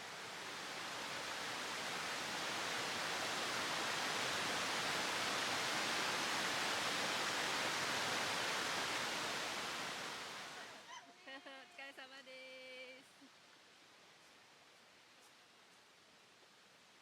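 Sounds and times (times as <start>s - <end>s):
rushing mountain river: 0.0s - 17.0s.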